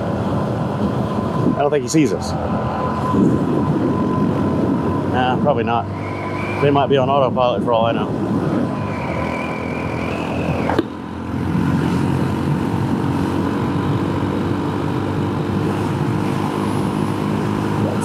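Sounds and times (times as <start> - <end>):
wind noise: 0.0 - 18.0.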